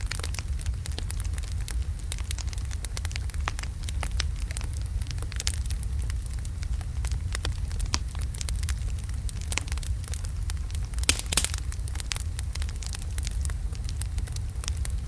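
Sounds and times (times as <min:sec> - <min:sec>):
logs burning in a fireplace: 0:00.0 - 0:15.0.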